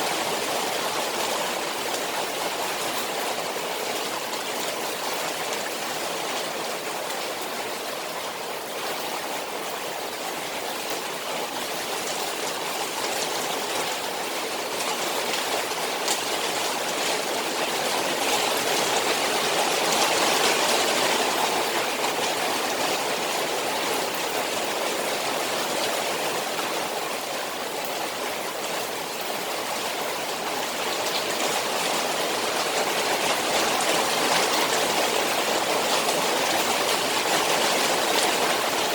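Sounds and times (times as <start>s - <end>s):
rain falling on a pond: 0.0s - 38.9s.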